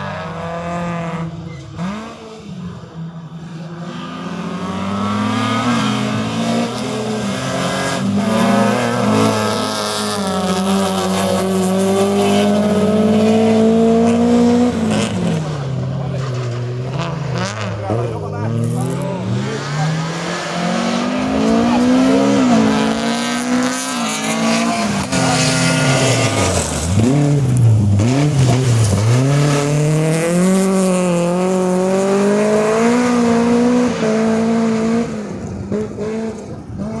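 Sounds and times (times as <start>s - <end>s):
rally car engine at full throttle: 0.0s - 37.0s.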